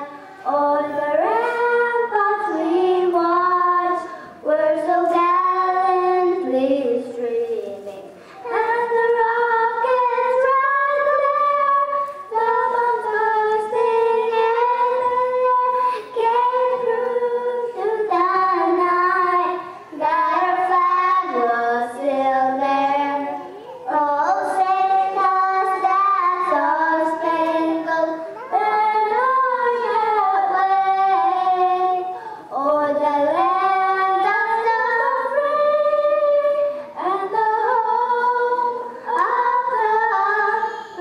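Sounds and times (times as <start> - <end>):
woman and girls singing: 0.0 - 41.0.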